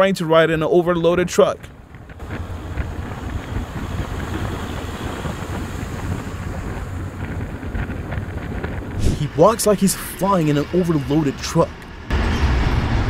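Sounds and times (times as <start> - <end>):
road and engine rumble: 0.0 - 13.0
wind buffeting microphone: 0.4 - 13.0.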